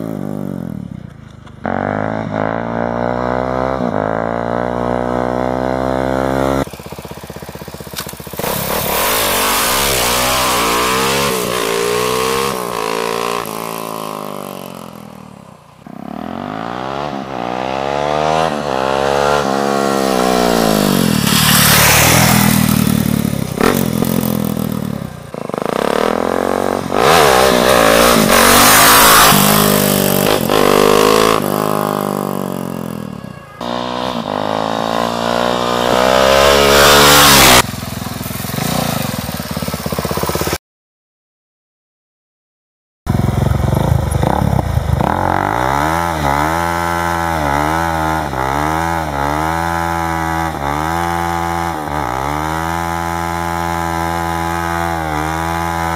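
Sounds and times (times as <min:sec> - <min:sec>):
motorcycle engine accelerating: 0:00.0 - 0:40.6, 0:43.1 - 0:55.9.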